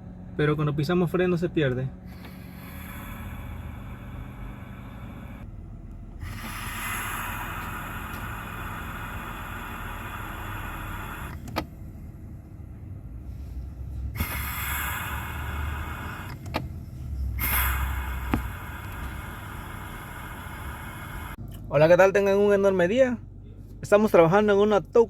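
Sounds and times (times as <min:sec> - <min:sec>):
engine idling hum: 0:00.0 - 0:25.0.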